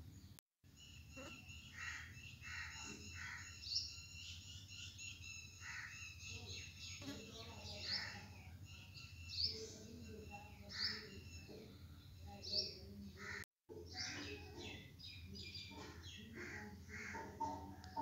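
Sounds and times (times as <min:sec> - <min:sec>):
mix of bird calls: 0:00.7 - 0:18.0.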